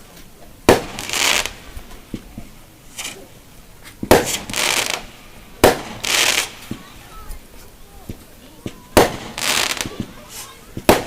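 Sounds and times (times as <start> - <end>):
fireworks bangs: 0.0 - 11.0
hissing crackle of fireworks: 0.0 - 11.0.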